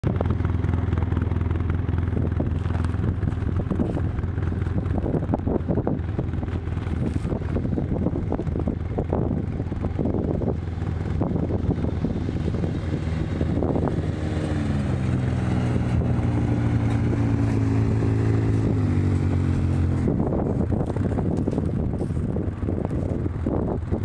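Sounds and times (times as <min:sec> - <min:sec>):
vehicle engine running: 0:00.0 - 0:24.0
wind buffeting microphone: 0:00.0 - 0:24.0.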